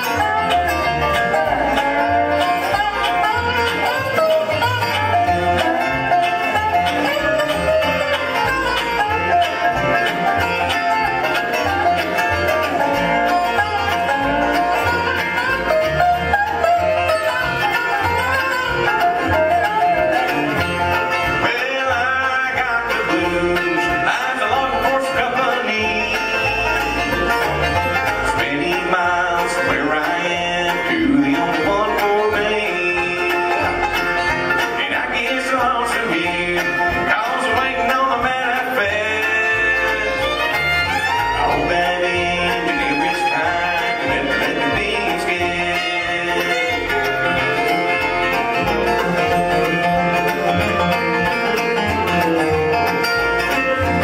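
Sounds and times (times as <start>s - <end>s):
acoustic guitar: 0.0s - 54.0s
banjo: 0.0s - 54.0s
fiddle: 0.0s - 54.0s
mandolin: 0.0s - 54.0s
resophonic guitar: 0.0s - 54.0s
upright bass: 0.0s - 54.0s.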